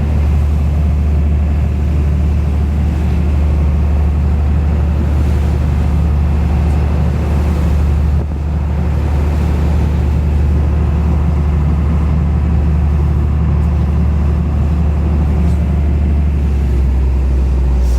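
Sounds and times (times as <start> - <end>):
boat engine droning: 0.0 - 17.9.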